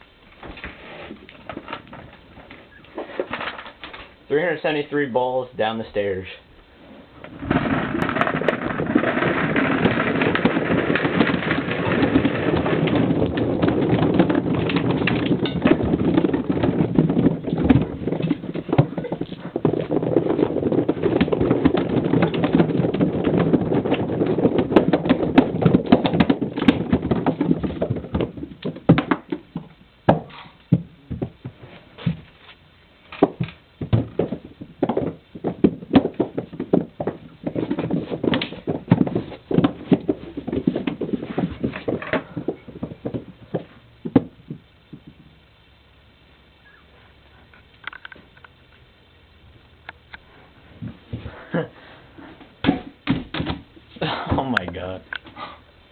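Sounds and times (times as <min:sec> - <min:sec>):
balls bouncing down carpeted stairs: 0:00.0 - 0:04.2, 0:07.2 - 0:45.7, 0:49.3 - 0:55.9.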